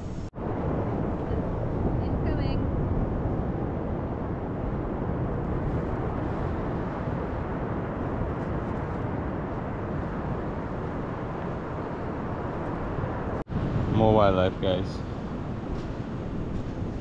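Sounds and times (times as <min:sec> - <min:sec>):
steady low rushing noise: 0:00.0 - 0:17.0.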